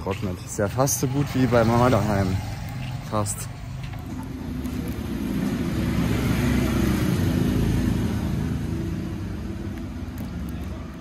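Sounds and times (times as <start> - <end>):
vehicle engine passing: 0.4 - 11.0.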